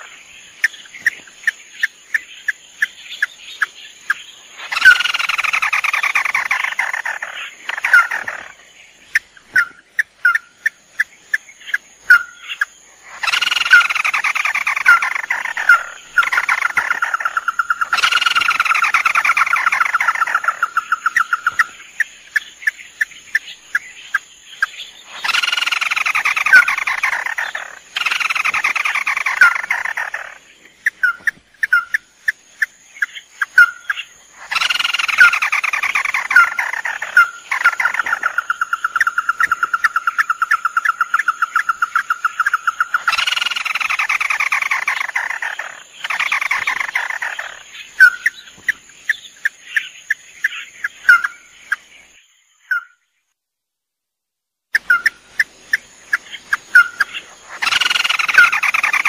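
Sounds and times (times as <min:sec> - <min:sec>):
crakes calling and trilling: 0:00.0 - 0:52.8, 0:54.8 - 0:59.0.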